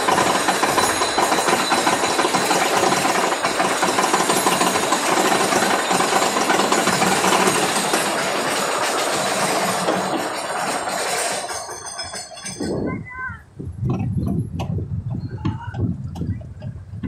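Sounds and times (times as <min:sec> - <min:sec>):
roller coaster cars rattling: 0:00.0 - 0:17.0.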